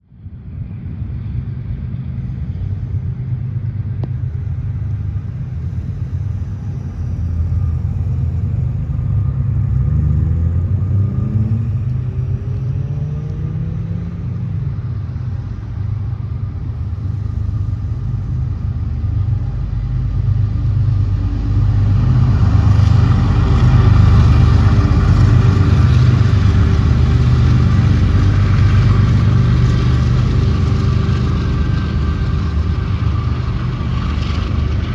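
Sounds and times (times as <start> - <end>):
heavy diesel engine rumble: 0.2 - 34.9.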